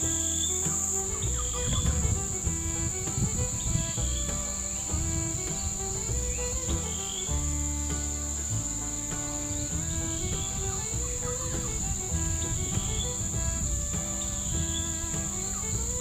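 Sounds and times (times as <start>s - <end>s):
background music with bass line: 0.0s - 16.0s
insects chirring: 0.0s - 16.0s.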